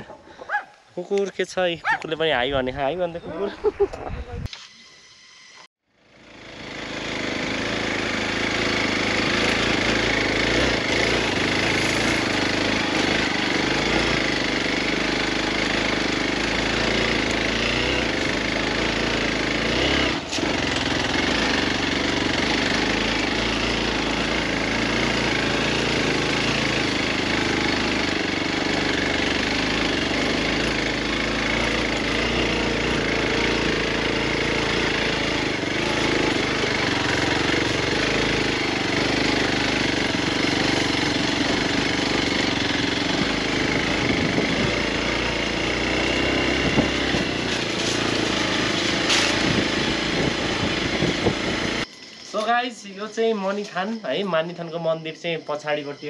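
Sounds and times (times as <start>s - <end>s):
motorcycle engine running: 5.8s - 54.6s.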